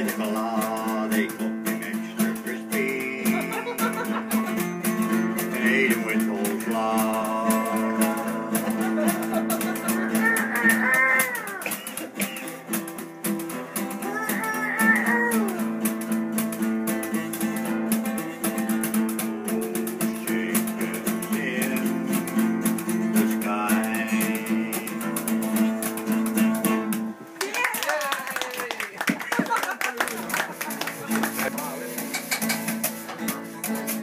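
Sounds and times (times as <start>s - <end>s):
acoustic guitar strumming: 0.0s - 27.4s, 30.5s - 34.0s.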